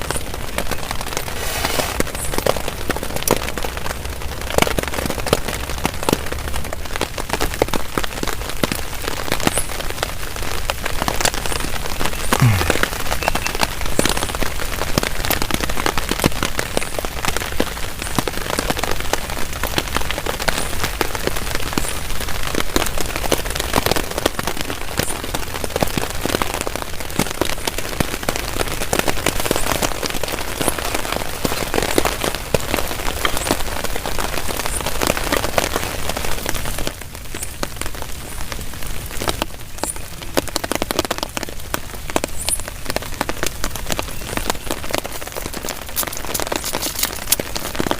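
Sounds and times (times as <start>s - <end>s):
heavy rain hissing on a tarp: 0.0s - 47.9s.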